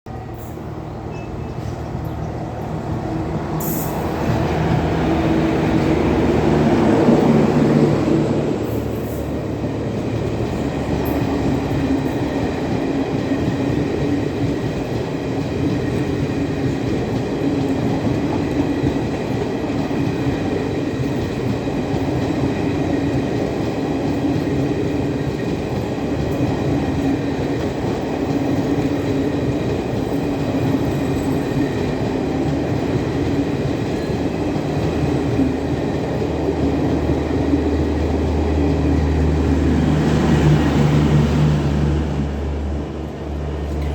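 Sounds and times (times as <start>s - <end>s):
electric locomotive humming: 0.1s - 43.9s
train wheels rumbling and clattering: 0.1s - 43.9s.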